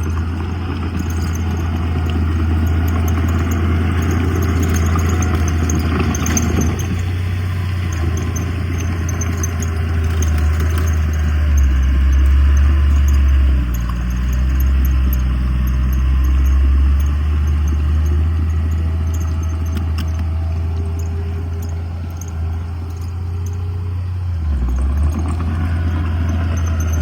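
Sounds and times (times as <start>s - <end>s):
diesel engine droning: 0.0s - 27.0s
machinery clatter: 0.0s - 27.0s.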